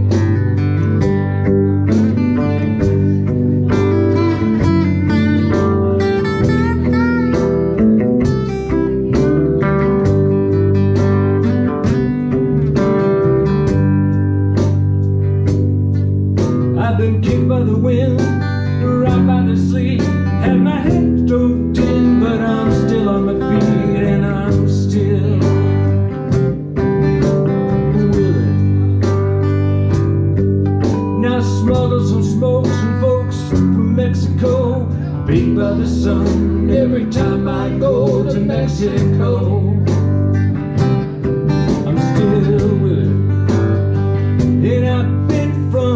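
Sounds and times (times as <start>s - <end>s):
acoustic guitar: 0.0s - 45.9s
electric guitar: 0.0s - 45.9s.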